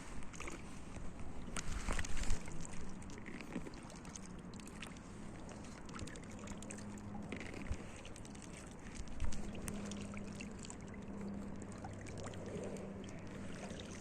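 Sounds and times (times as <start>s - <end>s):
paddle dipping into water: 0.0s - 14.0s
water dripping off paddle: 1.4s - 14.0s.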